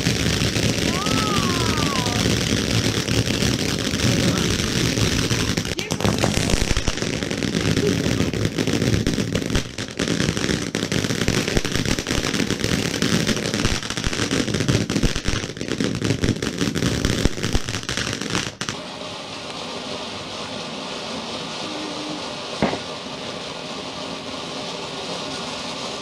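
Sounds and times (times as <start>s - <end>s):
firework crackling pops: 0.0s - 26.0s
firework sparks hissing: 0.0s - 26.0s.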